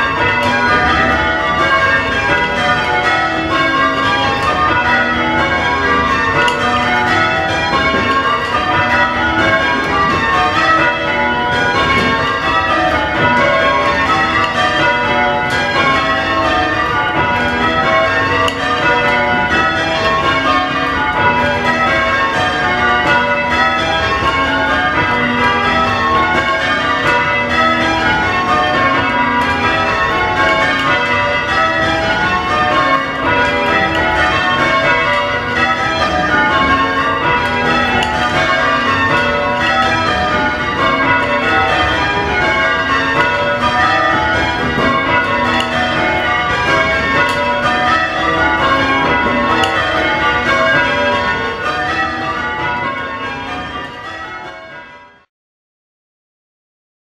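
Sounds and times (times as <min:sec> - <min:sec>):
church bells change ringing: 0:00.0 - 0:55.3.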